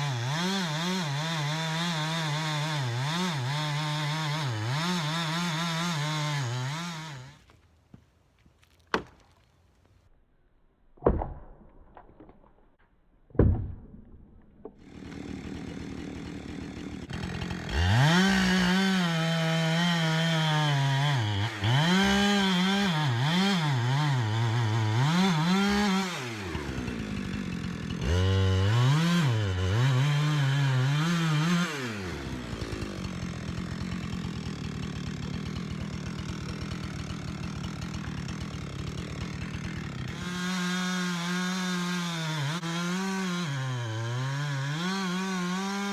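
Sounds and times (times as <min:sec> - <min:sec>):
chainsaw running and revving: 0:00.0 - 0:07.5, 0:14.8 - 0:45.9.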